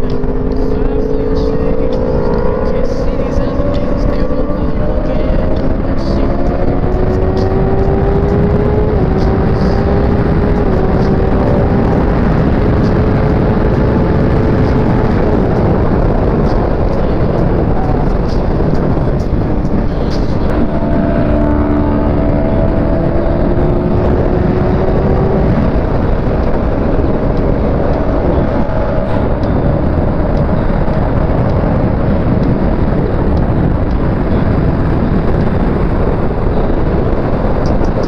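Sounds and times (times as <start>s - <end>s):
motorcycle engine accelerating: 0.0s - 38.0s
wind rushing over microphone: 0.0s - 38.0s.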